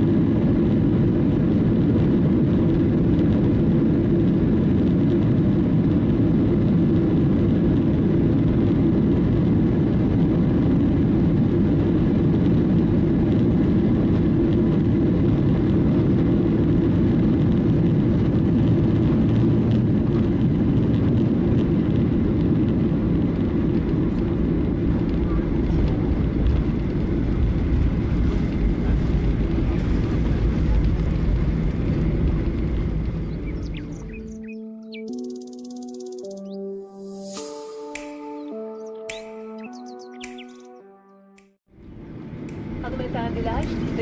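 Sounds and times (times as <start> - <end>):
airliner cabin jet engine rumble: 0.0 - 34.8, 41.8 - 44.0.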